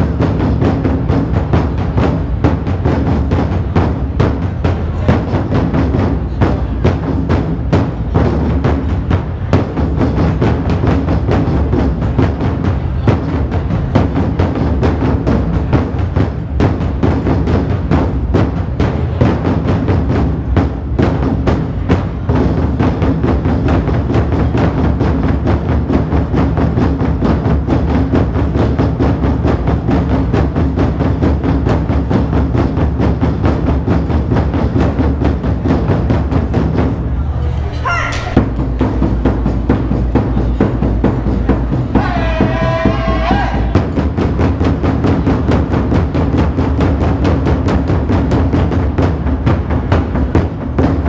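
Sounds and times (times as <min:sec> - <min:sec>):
large drums beaten fast: 0:00.0 - 0:51.0.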